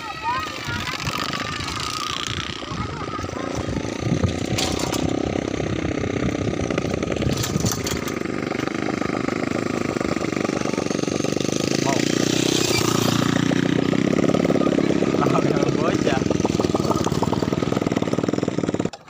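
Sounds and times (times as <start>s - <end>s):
small motorcycles riding past: 0.0s - 19.0s.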